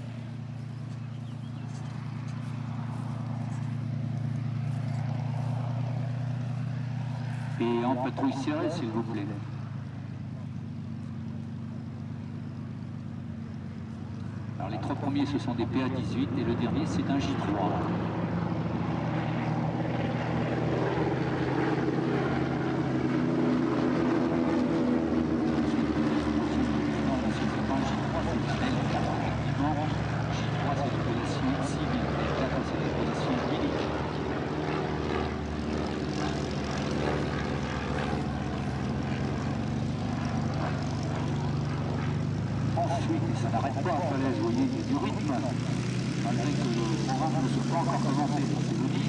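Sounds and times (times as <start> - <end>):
propeller engine running: 0.0 - 49.0.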